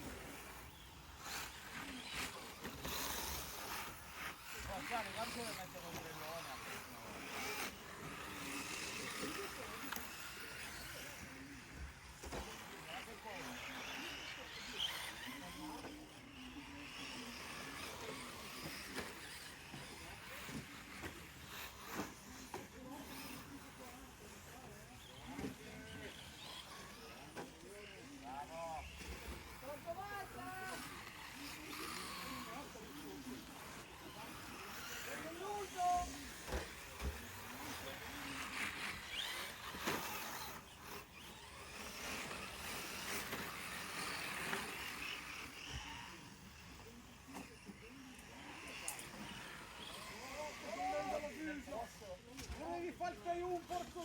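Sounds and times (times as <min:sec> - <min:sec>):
radio-controlled cars passing: 0:00.0 - 0:54.0.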